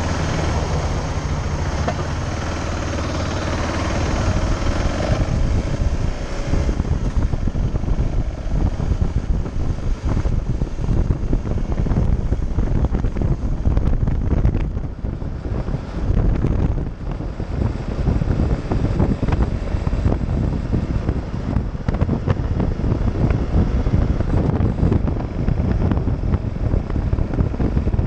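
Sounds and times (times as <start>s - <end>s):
motorcycle engine running: 0.0s - 28.0s
wind buffeting on microphone: 0.0s - 28.0s.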